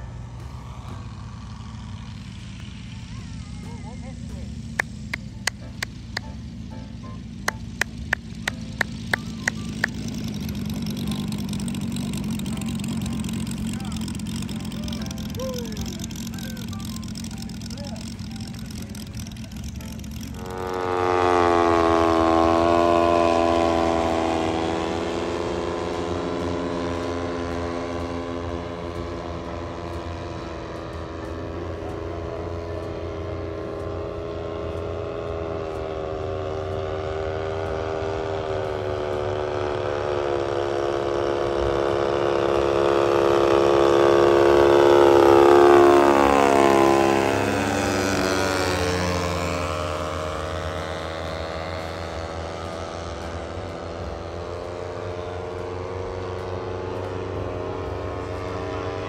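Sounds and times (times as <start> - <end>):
model aircraft propeller engines: 0.0 - 59.0.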